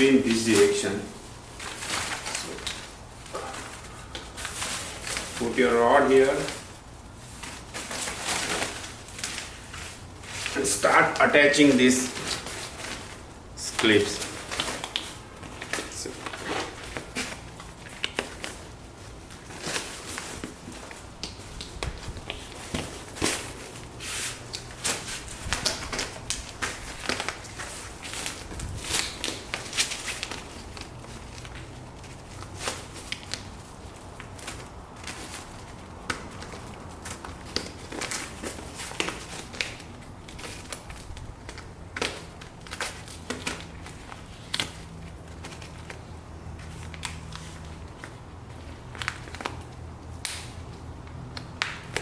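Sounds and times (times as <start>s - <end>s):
fabric rustling: 0.3s - 49.7s.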